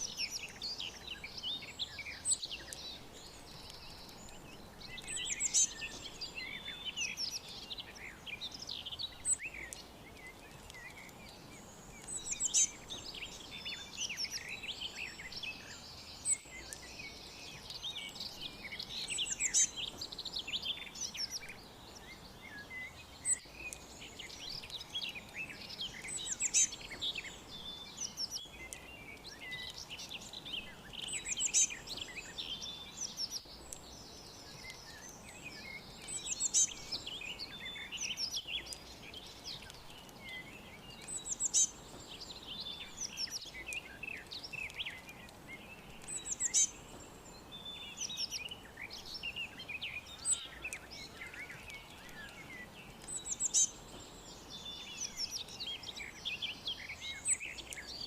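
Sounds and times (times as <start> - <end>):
faint background hiss: 0.0 - 58.0
small birds chirping: 0.0 - 58.0.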